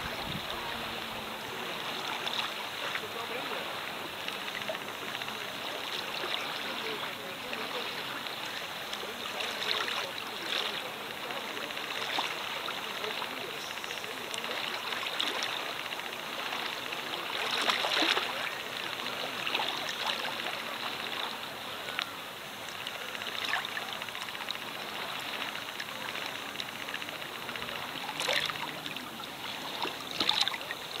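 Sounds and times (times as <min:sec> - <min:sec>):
sea water lapping and splashing: 0:00.0 - 0:31.0.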